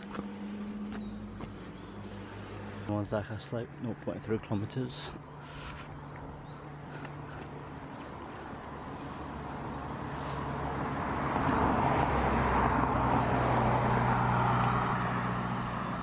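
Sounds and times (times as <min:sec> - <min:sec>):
vehicle passing on road: 0:00.0 - 0:16.0.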